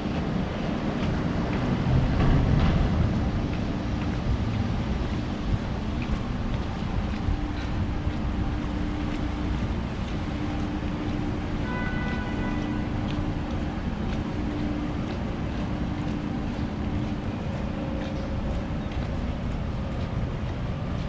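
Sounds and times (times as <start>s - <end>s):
city traffic rumble: 0.0s - 21.0s
rain on umbrella: 0.0s - 21.0s
wind buffeting microphone: 0.0s - 21.0s.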